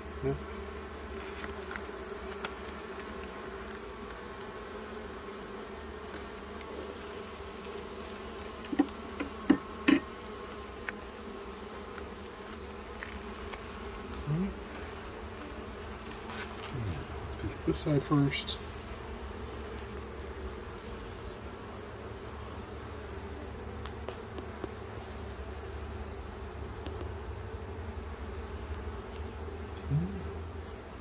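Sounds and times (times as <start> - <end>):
honeybees humming: 0.0 - 31.0.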